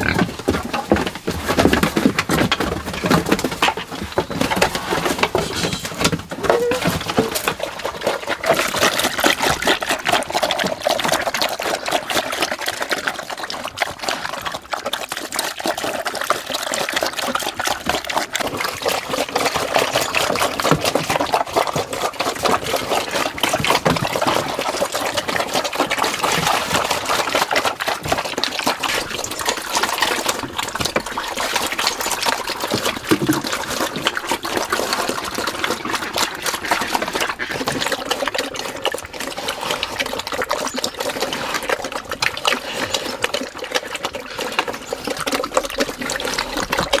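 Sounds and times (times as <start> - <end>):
pigs chomping and slurping: 0.0 - 47.0.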